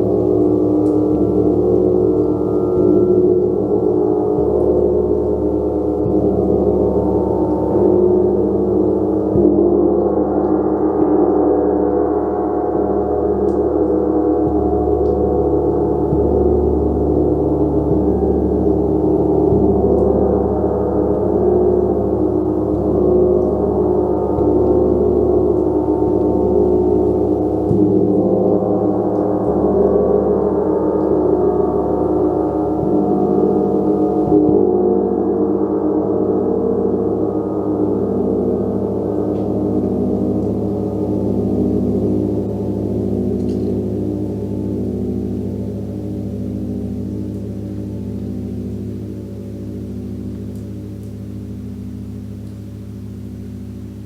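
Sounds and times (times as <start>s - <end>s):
gong struck with soft mallet: 0.0s - 54.0s.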